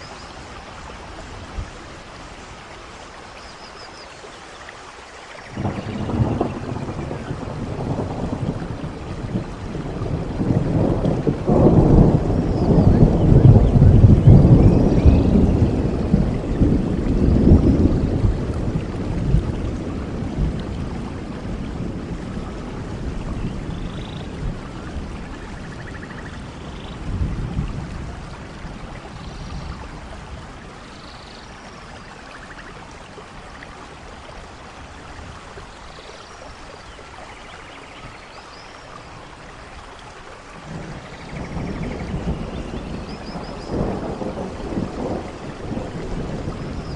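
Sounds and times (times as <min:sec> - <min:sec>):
steady rain: 0:00.0 - 0:46.9
low thunder rumbling: 0:05.5 - 0:35.7, 0:39.2 - 0:46.9.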